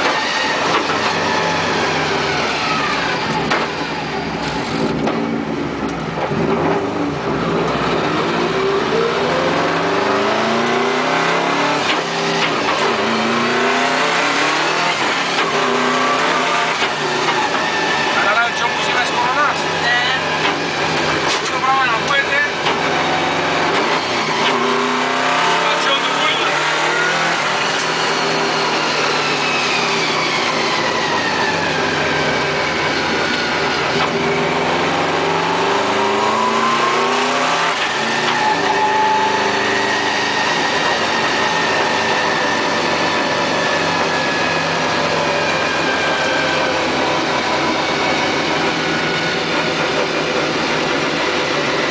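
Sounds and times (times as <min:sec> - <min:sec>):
car engine from inside cabin: 0:00.0 - 0:51.9
road noise: 0:00.0 - 0:51.9.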